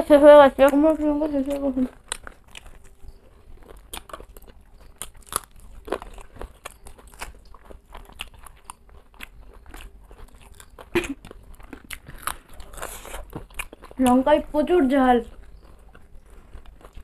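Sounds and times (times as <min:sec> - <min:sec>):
crunching and chewing snacks: 0:00.1 - 0:17.0.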